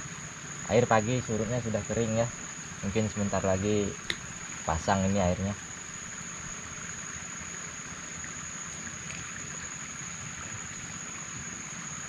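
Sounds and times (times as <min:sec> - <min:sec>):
even hiss: 0:00.0 - 0:12.0
high insect drone: 0:00.0 - 0:12.0.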